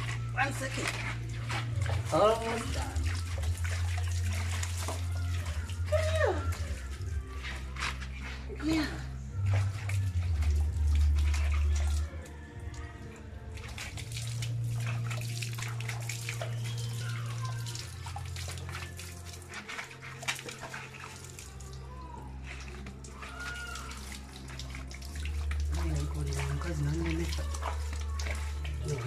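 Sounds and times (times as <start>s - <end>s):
water splashing on concrete: 0.0s - 29.0s.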